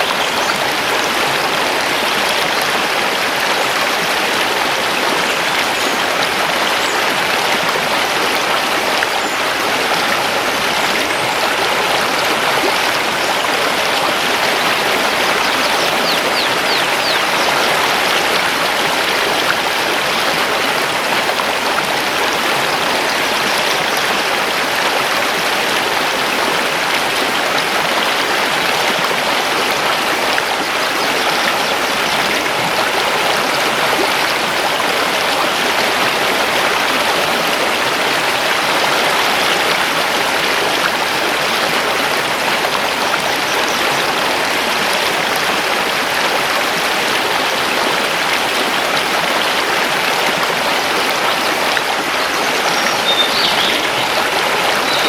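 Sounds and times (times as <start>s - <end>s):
river water rushing over stones: 0.0s - 55.0s.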